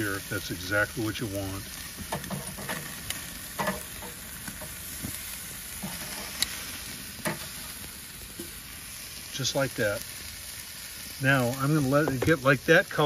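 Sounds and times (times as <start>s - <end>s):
steaks sizzling on grill: 0.0s - 13.0s.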